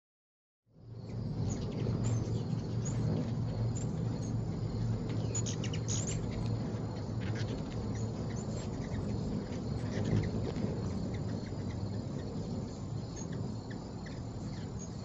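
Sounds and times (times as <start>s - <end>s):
low rumble: 0.7s - 15.0s
hummingbirds chipping: 0.9s - 15.0s.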